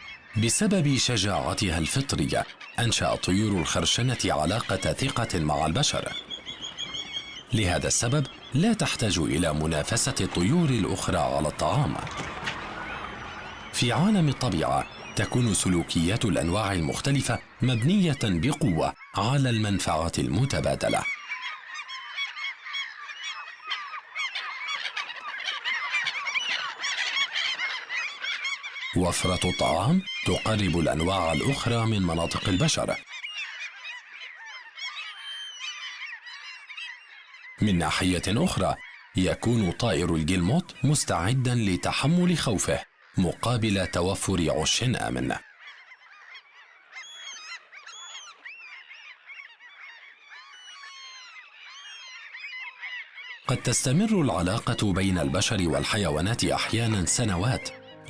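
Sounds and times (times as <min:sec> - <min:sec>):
seabirds calling: 0:00.0 - 0:58.0.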